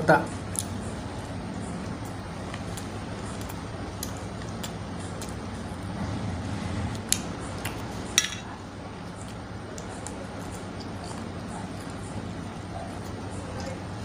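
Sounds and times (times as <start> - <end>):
low hum: 0.6 - 14.0.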